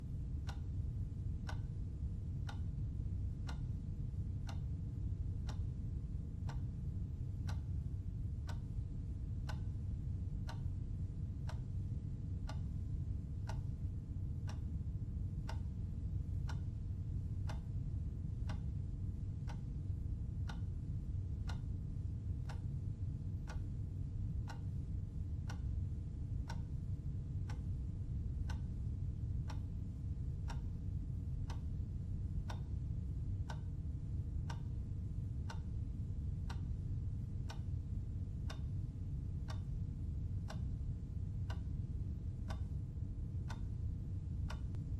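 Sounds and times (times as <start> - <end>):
steady low hum: 0.0 - 44.9
clock ticking: 0.4 - 10.8, 11.4 - 13.8, 14.4 - 14.8, 15.4 - 19.8, 20.4 - 44.9.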